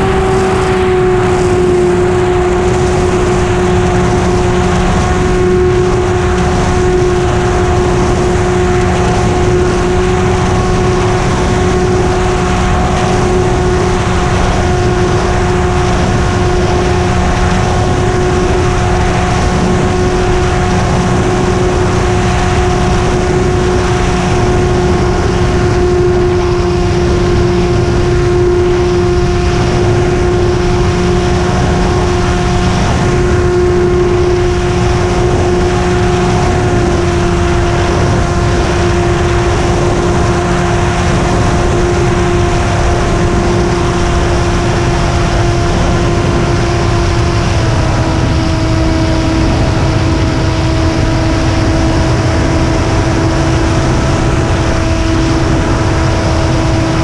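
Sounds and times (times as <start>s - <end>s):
model airplane engine and propeller: 0.0s - 57.0s.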